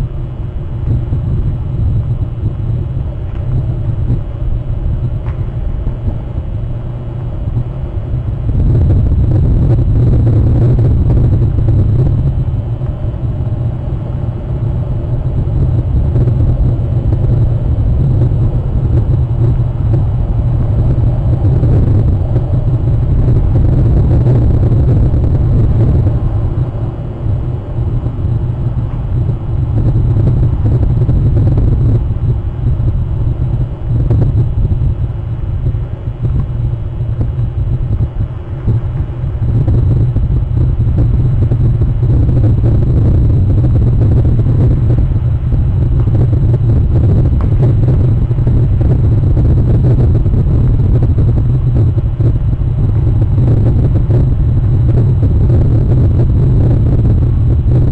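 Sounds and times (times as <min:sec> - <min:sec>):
wind: 0:00.0 - 0:57.9.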